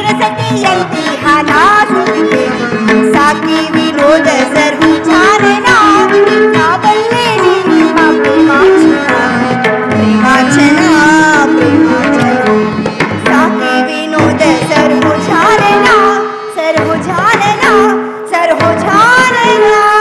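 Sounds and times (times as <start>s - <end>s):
hand drum rhythm: 0.0s - 17.9s, 18.5s - 20.0s.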